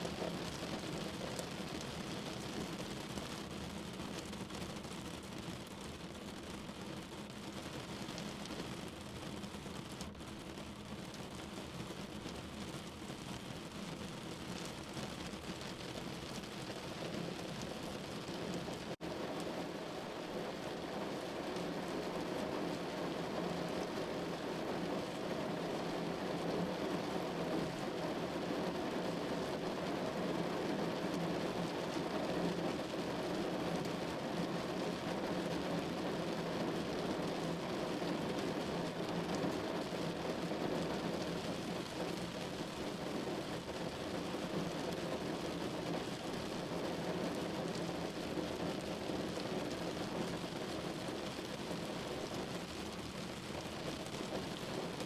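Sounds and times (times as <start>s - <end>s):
rain on a window pane: 0.0s - 55.0s.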